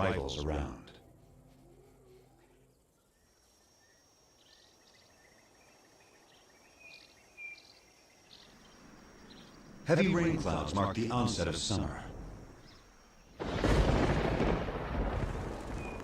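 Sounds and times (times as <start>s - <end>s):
high insect whine: 1.5s - 16.0s.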